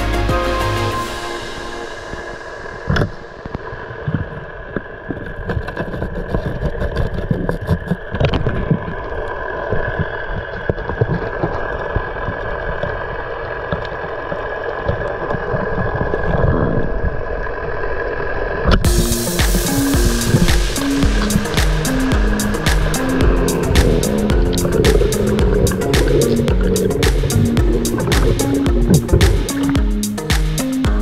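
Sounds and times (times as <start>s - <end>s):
low rumbling water noise: 0.0s - 30.3s
motor-like hum underwater: 2.7s - 29.4s.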